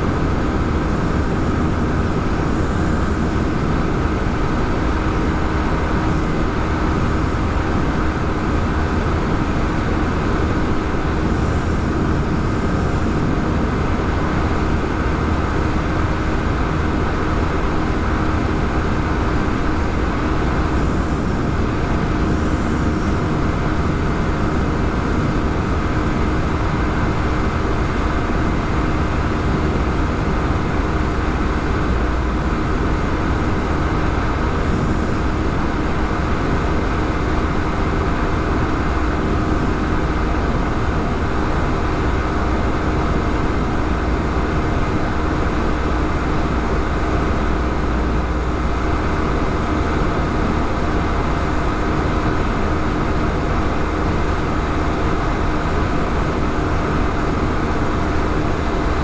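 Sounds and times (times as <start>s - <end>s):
motorcycle engine riding steadily: 0.0s - 59.0s.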